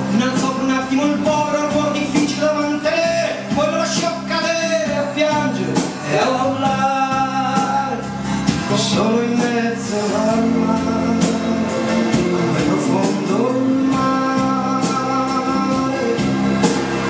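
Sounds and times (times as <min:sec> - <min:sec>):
song with singing over instruments: 0:00.0 - 0:17.0.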